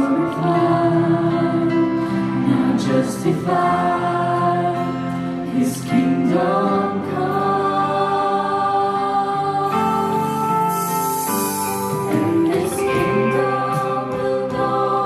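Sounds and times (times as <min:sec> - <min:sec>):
women singing into microphones: 0:00.0 - 0:11.4, 0:12.0 - 0:15.0
bass: 0:00.0 - 0:15.0
guitars: 0:00.0 - 0:15.0
keyboard chords: 0:00.0 - 0:15.0.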